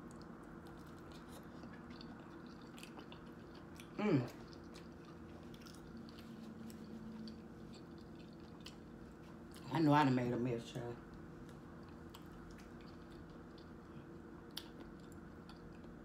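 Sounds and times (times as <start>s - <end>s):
chewing soft food: 0.0s - 10.2s, 11.0s - 16.0s.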